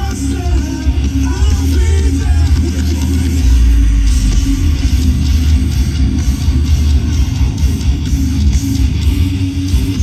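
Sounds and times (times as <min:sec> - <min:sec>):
hard rock band playing live: 0:00.0 - 0:10.0.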